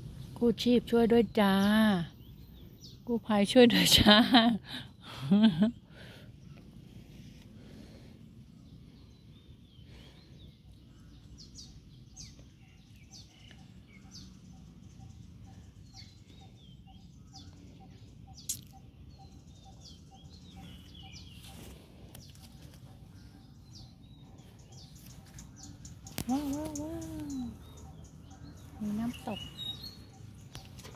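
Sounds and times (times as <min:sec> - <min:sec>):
faint low background hum: 0:00.0 - 0:30.9
small birds chirping: 0:00.0 - 0:30.9.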